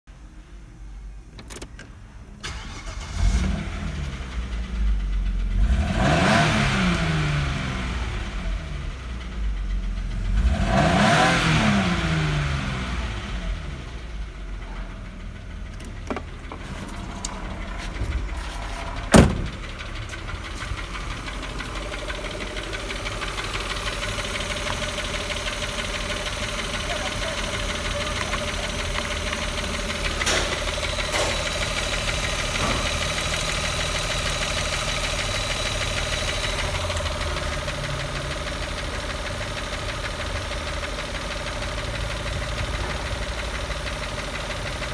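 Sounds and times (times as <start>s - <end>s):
car engine idling: 0.2s - 44.9s
car engine starting and revving: 2.4s - 44.9s.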